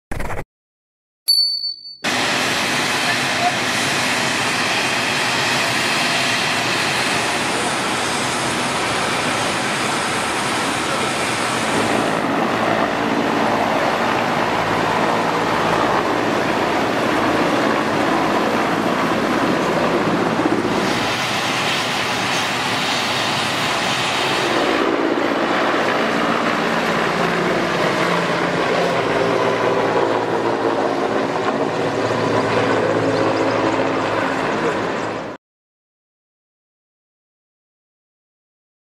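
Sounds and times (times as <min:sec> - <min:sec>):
helicopter engines and rotors: 0:02.0 - 0:35.4.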